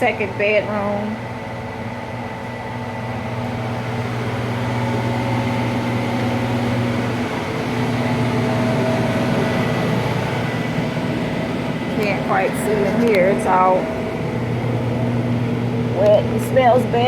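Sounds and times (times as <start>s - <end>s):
fan motor droning hum: 0.0s - 17.0s.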